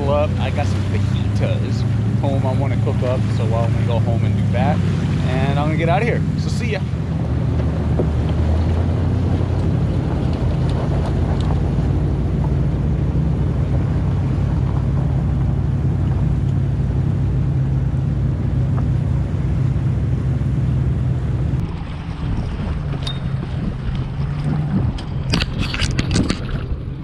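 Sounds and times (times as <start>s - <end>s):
deep rumble: 0.0s - 27.0s
water washing around hulls: 0.0s - 27.0s
wind buffeting microphone: 0.0s - 27.0s.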